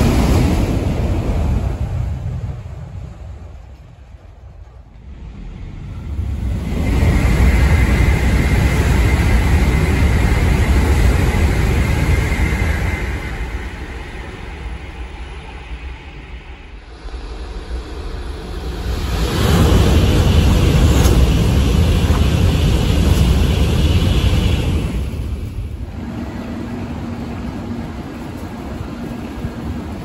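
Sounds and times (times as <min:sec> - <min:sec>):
high-speed train rushing past: 0:00.0 - 0:30.0.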